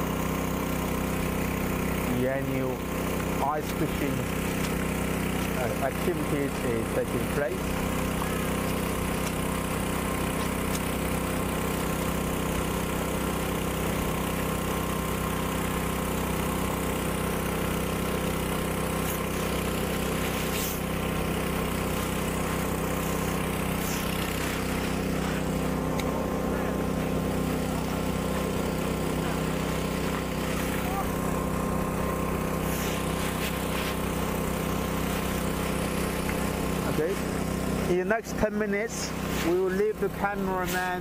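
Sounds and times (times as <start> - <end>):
engine idling: 0.0 - 41.0.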